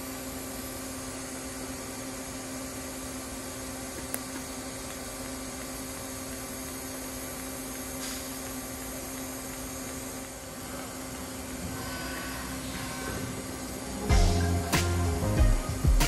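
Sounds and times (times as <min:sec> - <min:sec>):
welder electrical hum and hiss: 0:00.0 - 0:16.0.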